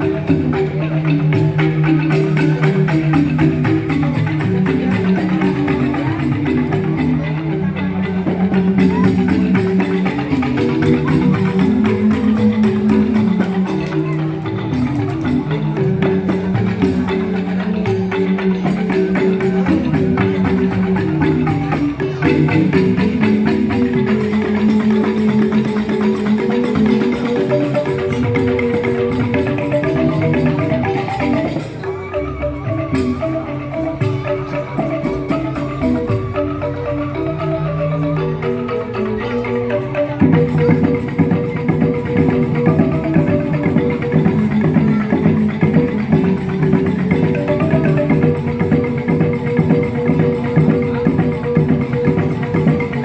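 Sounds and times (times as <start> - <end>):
bamboo xylophones playing: 0.0 - 53.0
percussion keeping rhythm: 0.0 - 53.0.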